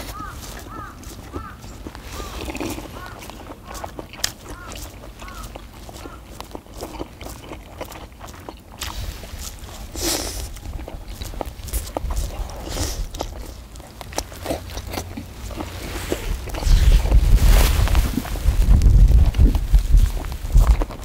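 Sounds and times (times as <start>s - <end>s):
people biting and chewing: 0.0s - 21.0s.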